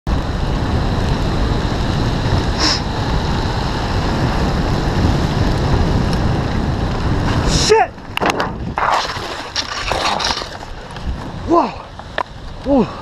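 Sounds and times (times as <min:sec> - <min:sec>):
tyres on wet road: 0:00.1 - 0:13.0
wind buffeting microphone: 0:00.1 - 0:13.0.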